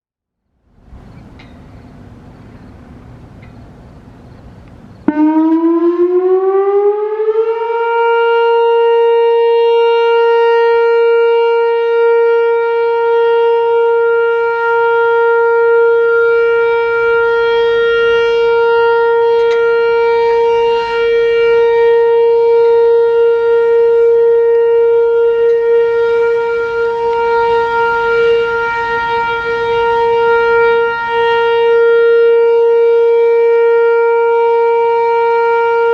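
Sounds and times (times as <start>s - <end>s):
electronic warning siren tone: 5.0s - 35.9s.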